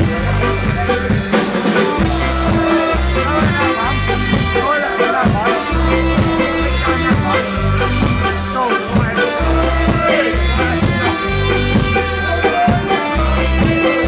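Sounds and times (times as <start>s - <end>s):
bass line: 0.0s - 14.0s
live reggae band playing: 0.0s - 14.0s.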